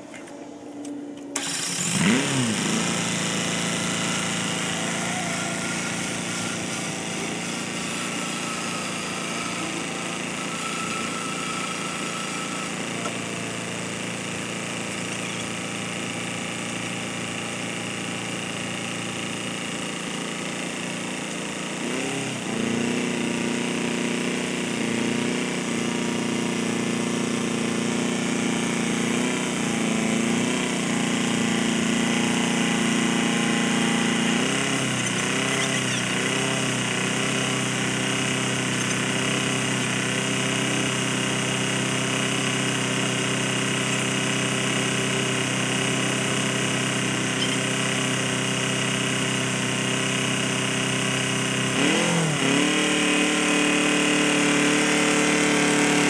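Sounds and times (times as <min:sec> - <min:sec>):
tractor engine revving: 0:01.4 - 0:56.0.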